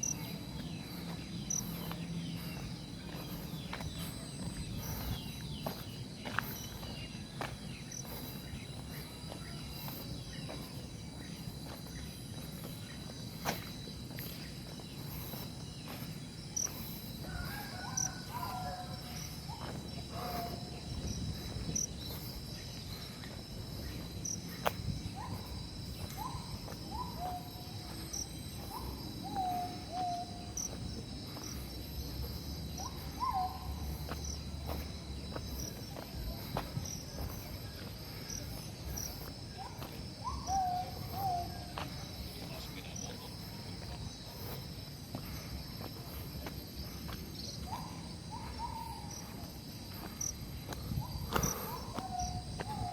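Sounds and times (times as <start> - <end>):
crickets droning: 0.0 - 52.9.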